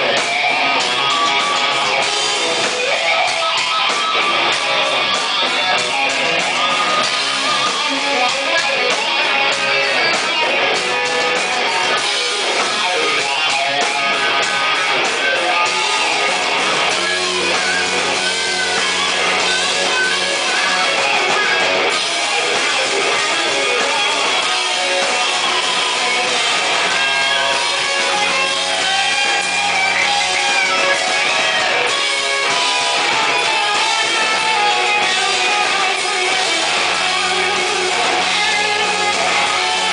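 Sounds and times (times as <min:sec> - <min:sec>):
drums: 0:00.0 - 0:39.9
electric guitar: 0:00.0 - 0:39.9
live rock band playing: 0:00.0 - 0:39.9.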